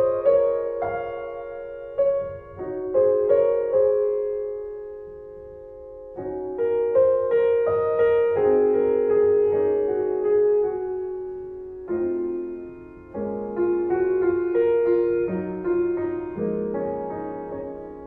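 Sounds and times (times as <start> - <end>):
slow piano piece: 0.0 - 18.0.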